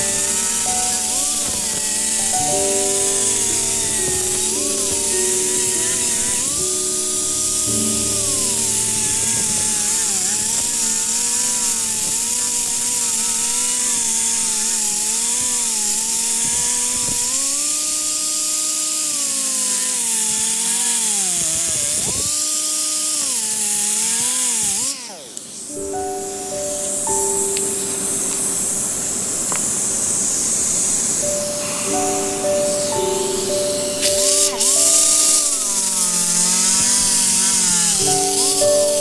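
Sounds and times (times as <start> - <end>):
pneumatic cut-off tool cutting metal: 0.0 - 39.0.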